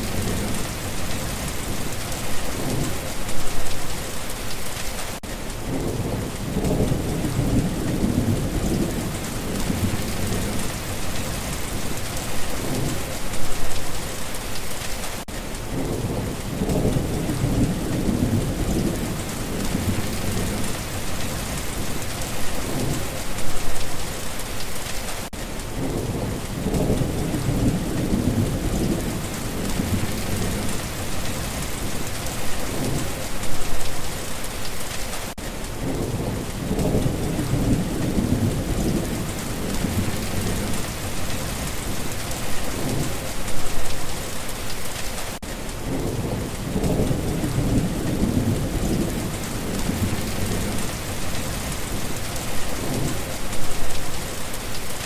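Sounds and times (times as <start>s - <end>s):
low rolls of thunder: 0.0s - 3.6s, 5.6s - 13.7s, 15.6s - 23.7s, 25.7s - 33.8s, 35.7s - 43.8s, 45.8s - 53.9s
heavy rain pattering: 0.0s - 55.0s.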